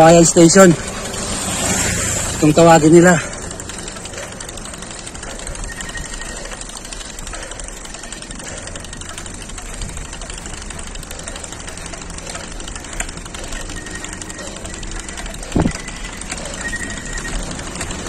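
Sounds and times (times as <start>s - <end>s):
bike rattling: 0.0s - 18.0s
bike tyres rumbling: 0.0s - 18.0s
sharp clicks: 0.0s - 18.0s.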